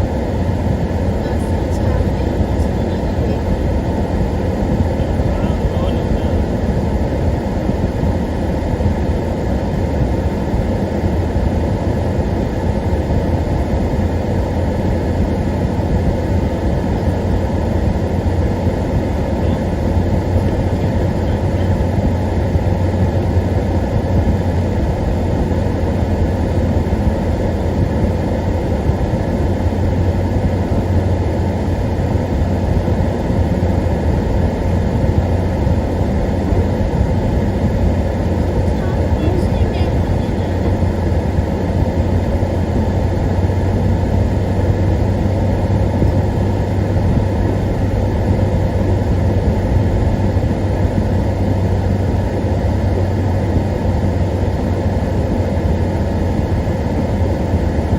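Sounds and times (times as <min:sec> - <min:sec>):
car engine and tyres rumbling: 0:00.0 - 0:57.9.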